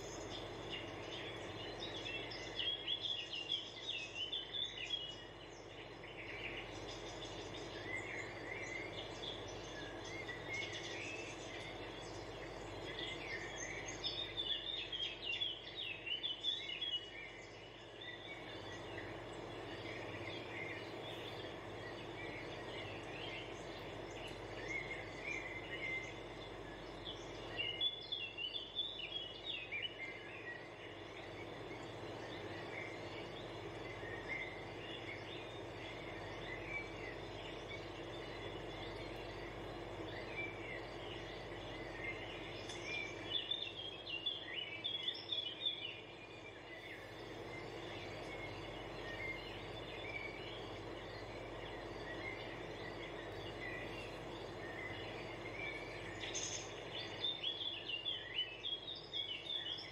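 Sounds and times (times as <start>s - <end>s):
small birds chirping: 0.0s - 59.9s
steady background hiss: 0.0s - 59.9s.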